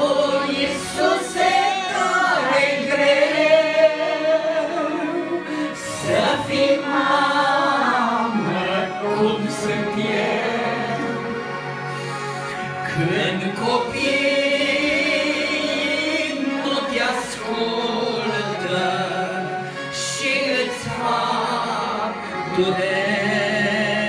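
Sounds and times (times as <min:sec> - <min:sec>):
person singing religious song: 0:00.0 - 0:24.0.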